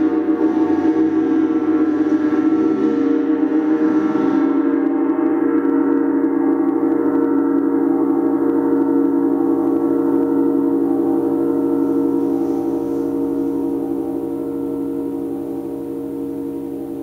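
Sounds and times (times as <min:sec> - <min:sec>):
large gong ringing: 0:00.0 - 0:17.0.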